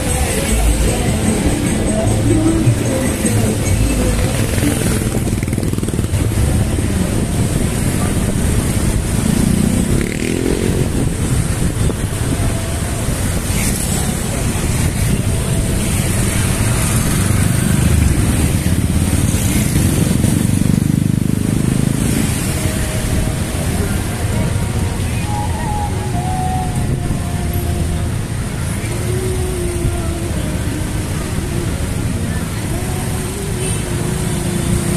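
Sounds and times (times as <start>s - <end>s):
road and wind rumble: 0.0s - 34.9s
scooter and motorcycle engines: 0.0s - 34.9s.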